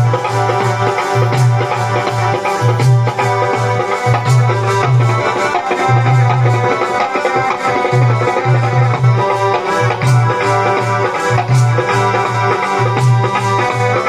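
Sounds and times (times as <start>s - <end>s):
harmonium: 0.0s - 14.0s
tabla rhythm: 0.0s - 14.0s.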